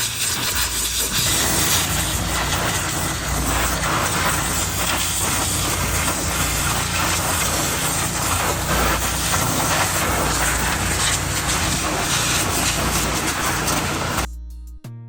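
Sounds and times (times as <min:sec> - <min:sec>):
engine humming: 0:00.0 - 0:14.3
pressure washer spraying water: 0:00.0 - 0:14.3.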